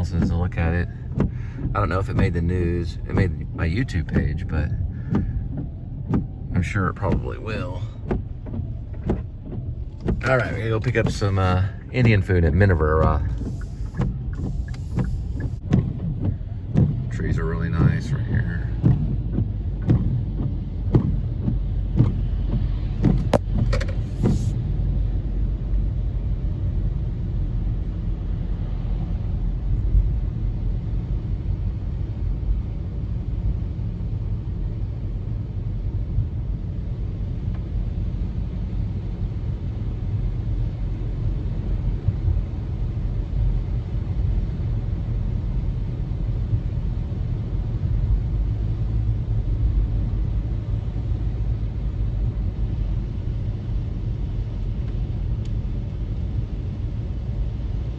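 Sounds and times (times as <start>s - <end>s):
car cabin road rumble: 0.0s - 57.9s.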